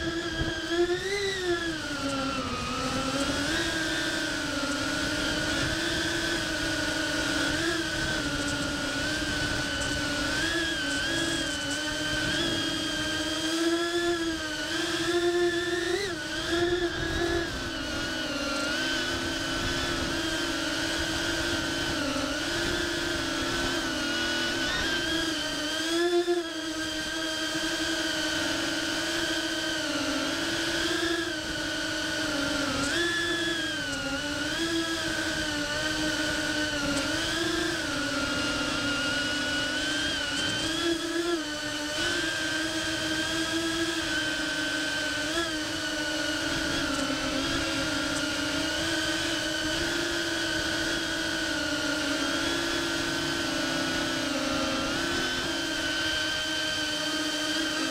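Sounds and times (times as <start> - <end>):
drone motors whining: 0.0 - 57.9.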